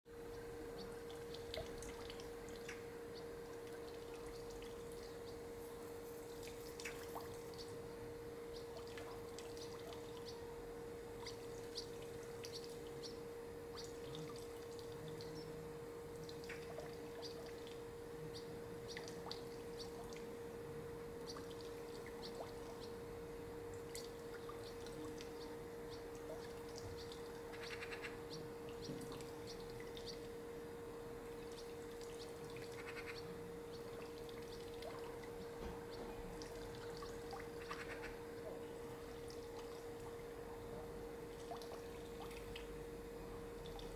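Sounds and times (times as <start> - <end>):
steady low hum: 0.1 - 43.9.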